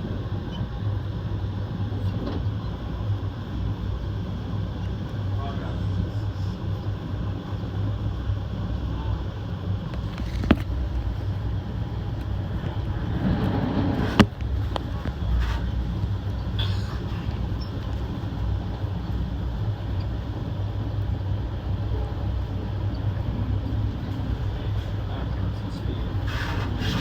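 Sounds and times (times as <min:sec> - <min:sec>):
train coach rumbling on track: 0:00.0 - 0:27.0.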